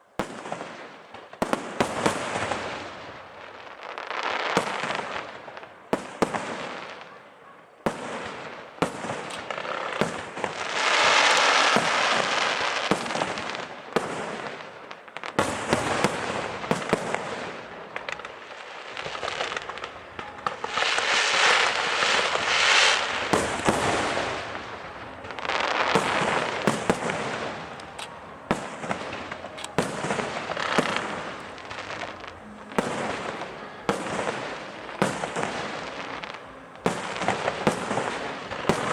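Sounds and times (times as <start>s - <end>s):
fireworks bursts and bangs: 0.0s - 38.9s
fireworks crackling: 0.0s - 38.9s.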